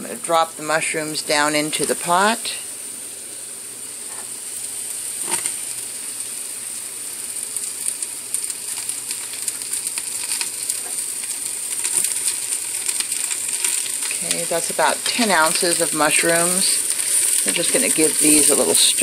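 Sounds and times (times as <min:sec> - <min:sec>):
mushrooms sizzling in oil: 0:00.0 - 0:19.0.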